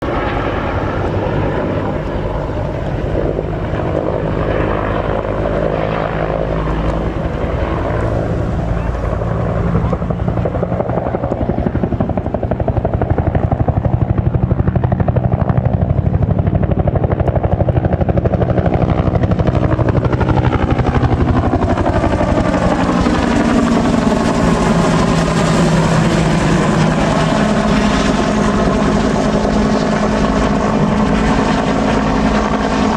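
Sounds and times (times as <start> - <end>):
helicopter flying past: 0.0 - 32.9.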